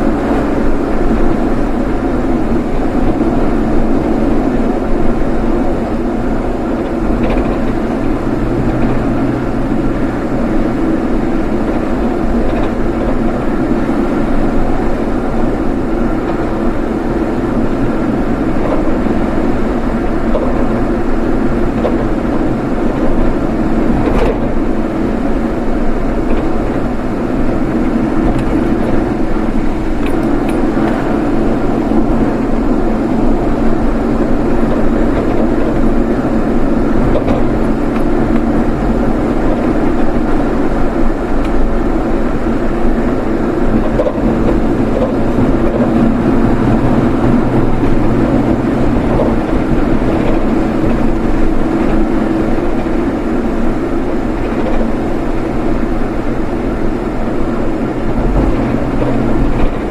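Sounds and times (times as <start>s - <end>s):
vehicle engine and tyre noise: 0.0s - 59.9s.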